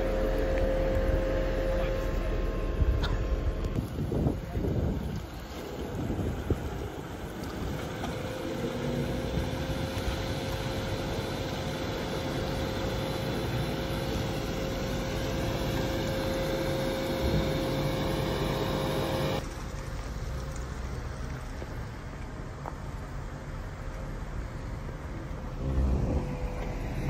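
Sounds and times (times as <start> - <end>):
off-road vehicle engines driving past: 0.0 - 27.0
quieter engine sound: 0.0 - 27.0.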